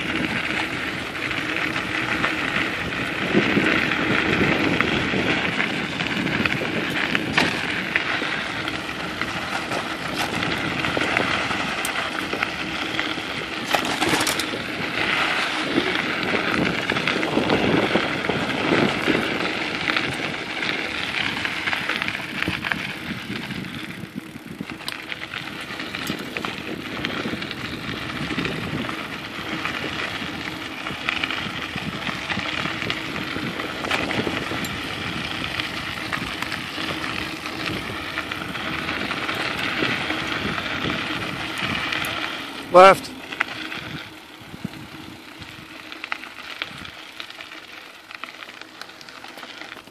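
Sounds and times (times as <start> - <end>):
bicycle tyres on dirt trail: 0.0 - 49.9
bike rattling over bumps: 0.0 - 49.9.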